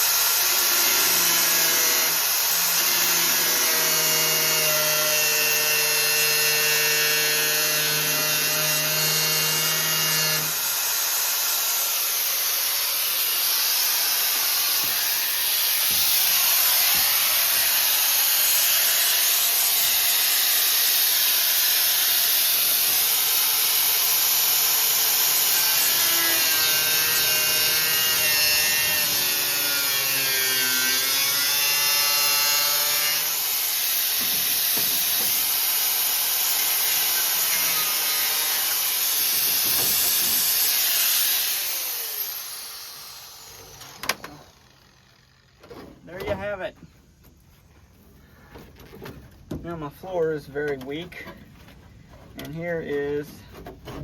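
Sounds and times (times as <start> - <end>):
grinder cutting sheet steel: 0.0 - 45.6
grinder motor whine: 0.0 - 45.6.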